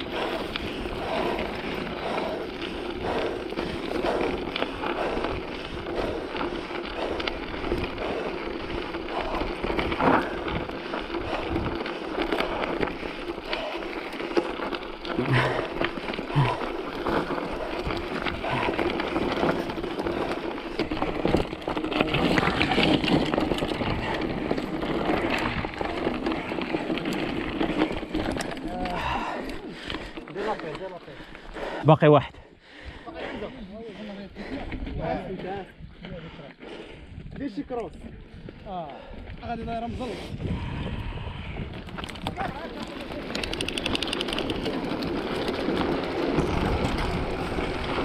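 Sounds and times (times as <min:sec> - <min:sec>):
bike tyres rumbling on dirt: 0:00.0 - 0:31.9, 0:34.3 - 0:48.0.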